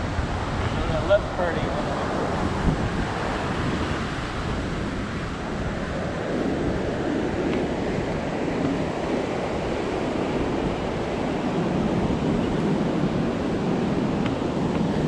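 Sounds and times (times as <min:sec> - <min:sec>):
ocean surf breaking: 0:00.0 - 0:15.0
wind noise on microphone: 0:00.0 - 0:15.0.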